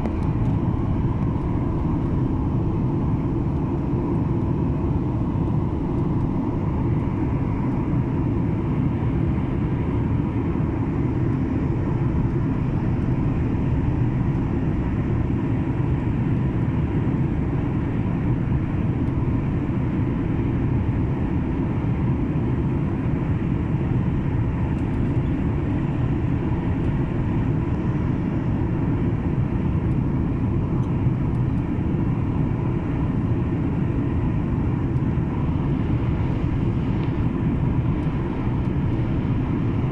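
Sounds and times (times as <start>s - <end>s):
airliner cabin engine rumble: 0.0s - 39.9s
faint steady whine: 0.0s - 39.9s.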